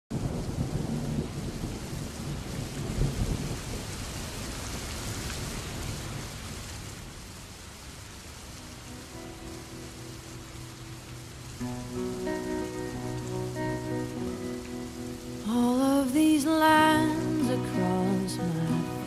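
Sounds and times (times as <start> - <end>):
heavy rain pouring: 0.1 - 19.0.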